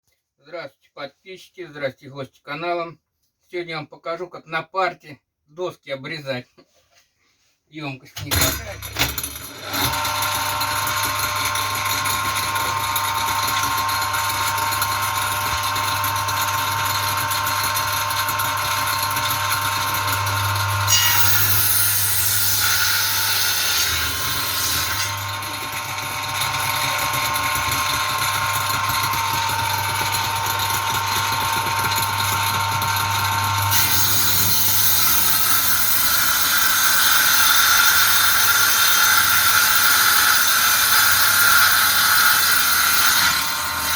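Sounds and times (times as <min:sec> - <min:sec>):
circular saw cutting boards: 0:08.2 - 0:43.9.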